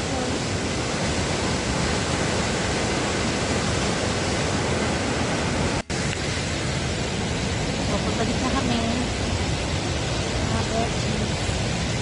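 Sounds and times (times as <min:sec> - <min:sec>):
river rushing over a weir: 0:00.0 - 0:12.0.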